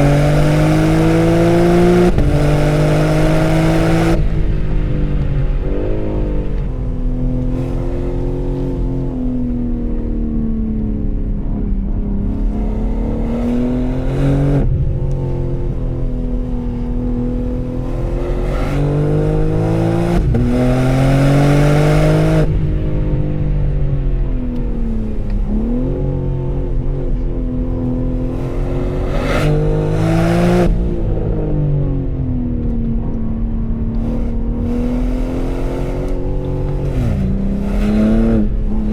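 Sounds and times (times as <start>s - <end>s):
car engine revving under acceleration: 0.0s - 38.9s.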